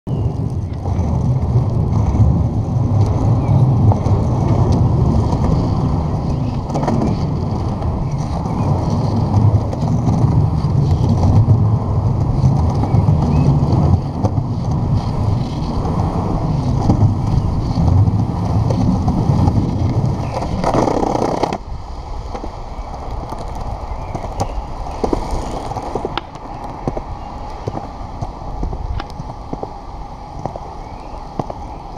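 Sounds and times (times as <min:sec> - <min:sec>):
skateboard wheels rolling on concrete: 0:00.1 - 0:31.9
skateboard clicks over bumps: 0:00.2 - 0:31.9.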